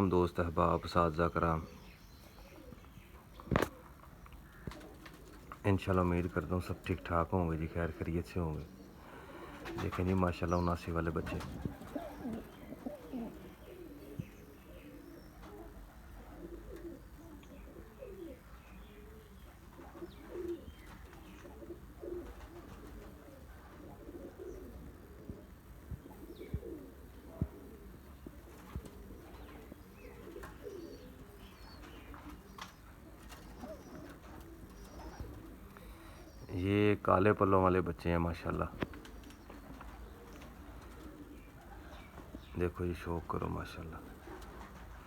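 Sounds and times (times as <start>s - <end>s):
pigeons cooing: 0.0s - 45.0s.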